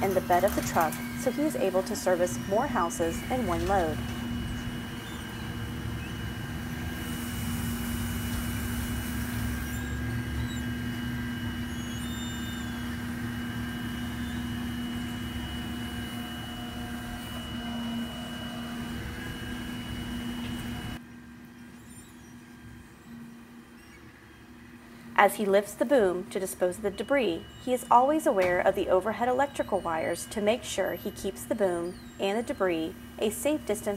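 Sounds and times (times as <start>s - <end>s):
faint high whine: 0.0s - 33.9s.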